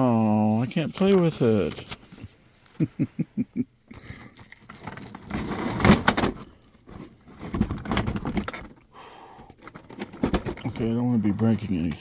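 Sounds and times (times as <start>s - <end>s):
packaging rustling and scraping: 0.5s - 2.9s, 4.0s - 8.8s, 9.5s - 12.0s.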